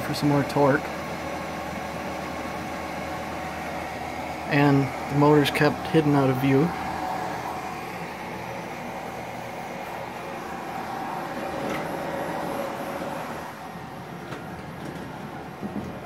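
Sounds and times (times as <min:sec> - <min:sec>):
three d printers whirring: 0:00.0 - 0:16.0.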